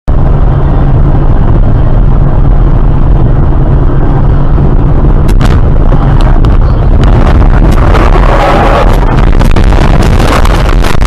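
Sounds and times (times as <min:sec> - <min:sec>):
car rumble: 0:00.1 - 0:11.0.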